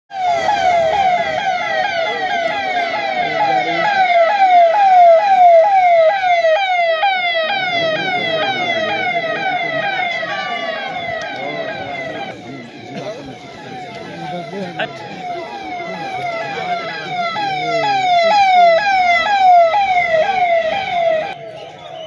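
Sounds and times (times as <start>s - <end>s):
electronic siren falling tone: 0.1s - 12.7s, 13.4s - 21.9s.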